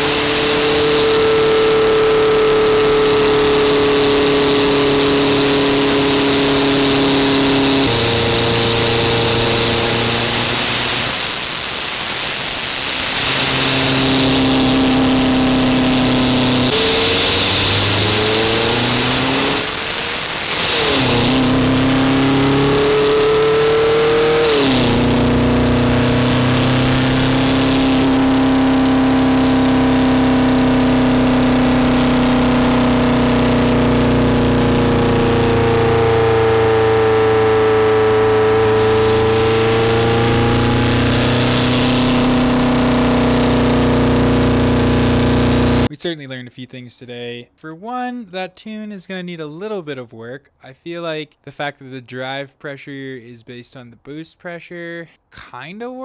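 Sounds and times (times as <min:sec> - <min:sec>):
diesel engine accelerating: 0:00.0 - 0:45.9.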